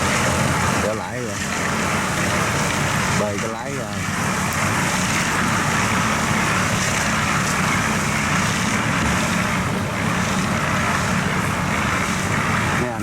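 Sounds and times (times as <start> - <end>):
diesel engine droning at full throttle: 0.0 - 13.0.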